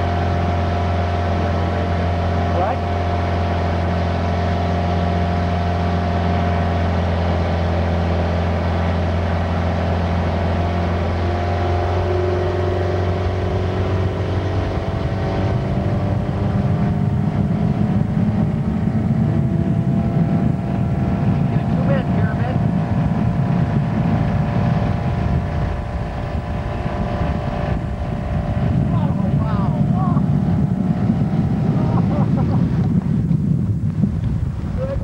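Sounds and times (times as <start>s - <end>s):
motorboat engine: 0.0s - 35.0s
water wash: 0.0s - 35.0s.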